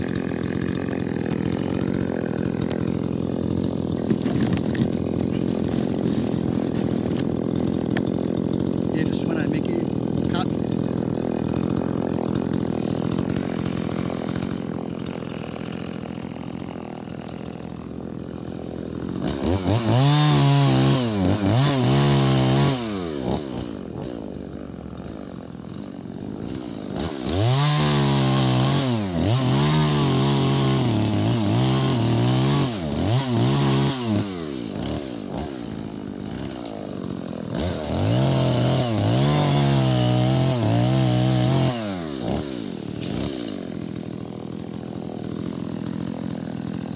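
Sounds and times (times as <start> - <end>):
chainsaw revving and cutting wood: 0.0 - 46.9.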